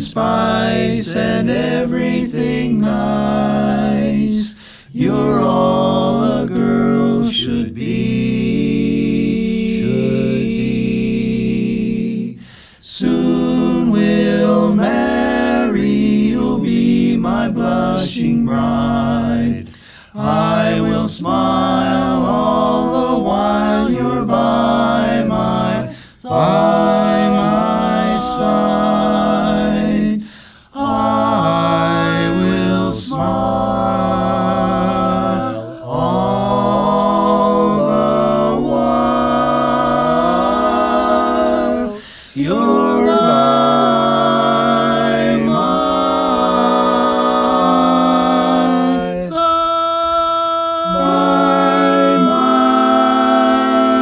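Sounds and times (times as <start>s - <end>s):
male quartet singing a cappella: 0.0s - 54.0s.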